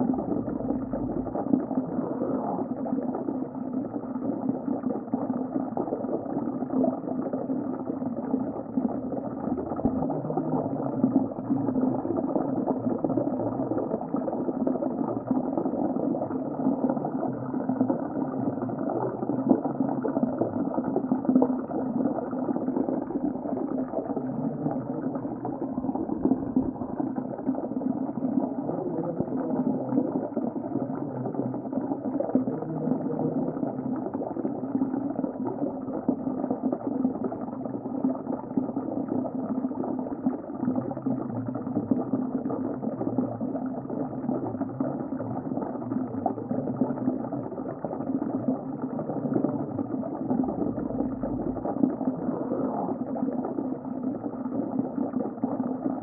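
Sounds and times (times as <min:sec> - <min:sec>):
muffled underwater bubbling water: 0:00.0 - 0:56.0.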